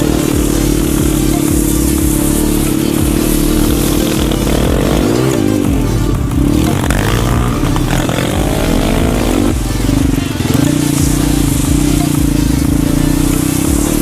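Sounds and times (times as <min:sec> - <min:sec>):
motorbike engine revving: 0:00.0 - 0:14.0.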